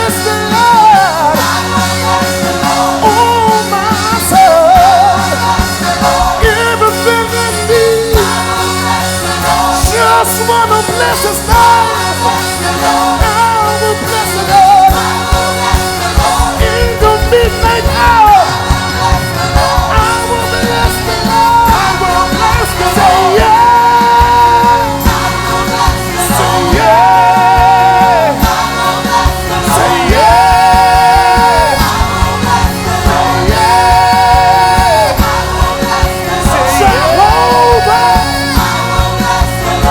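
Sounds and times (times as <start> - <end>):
gospel band with drums: 0.0 - 39.9.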